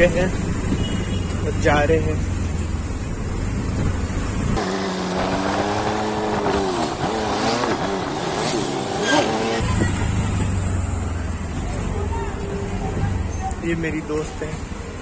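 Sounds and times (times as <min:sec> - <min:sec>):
auto-rickshaw engine running: 0:00.0 - 0:15.0
city traffic: 0:00.0 - 0:15.0.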